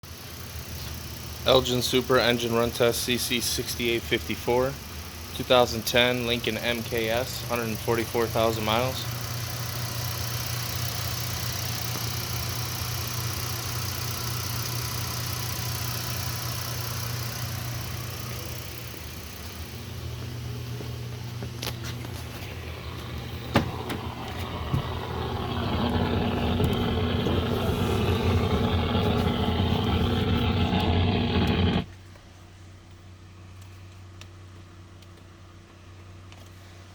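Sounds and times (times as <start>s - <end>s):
car engine running: 0.0s - 31.9s.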